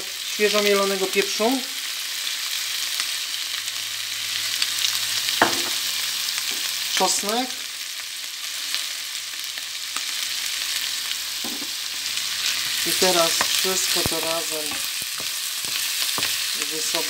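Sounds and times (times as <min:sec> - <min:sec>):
meat sizzling in frying pan: 0:00.0 - 0:17.0.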